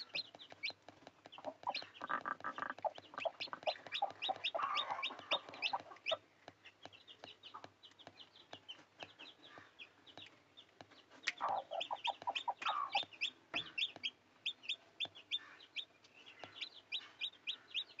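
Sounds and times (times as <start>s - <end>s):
chickens clucking: 0.0s - 18.0s
chicks cheeping: 0.0s - 18.0s.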